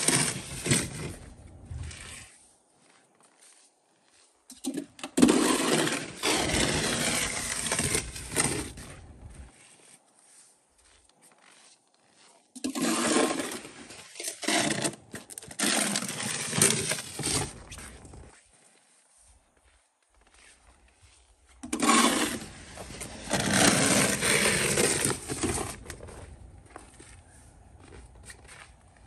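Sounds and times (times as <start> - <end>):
snow shovel scraping concrete: 0.0 - 18.5, 20.2 - 26.4.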